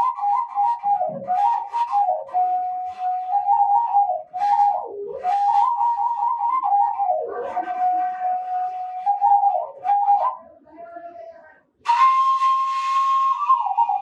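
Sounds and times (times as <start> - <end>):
bamboo flute melody: 0.0 - 10.6, 11.8 - 14.0.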